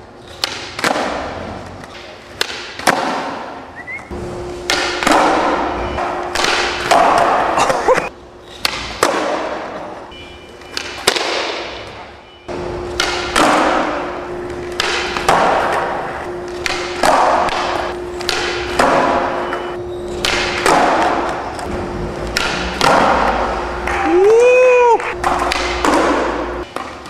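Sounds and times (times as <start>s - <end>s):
skateboard clacks: 0.4s - 4.1s, 4.7s - 7.7s, 8.6s - 10.0s, 10.6s - 12.0s, 13.0s - 19.6s, 20.2s - 27.0s.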